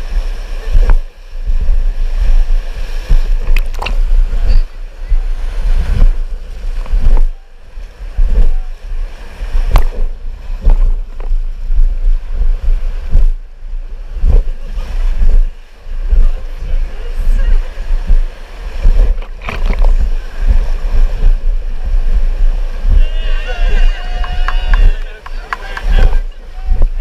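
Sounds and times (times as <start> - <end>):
rushing river rapids: 0.0 - 27.0
wind buffeting microphone: 0.0 - 27.0.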